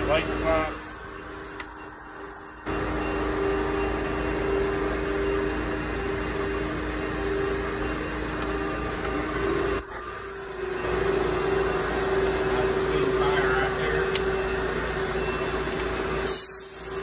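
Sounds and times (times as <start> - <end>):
motor-driven machine running: 0.0 - 17.0.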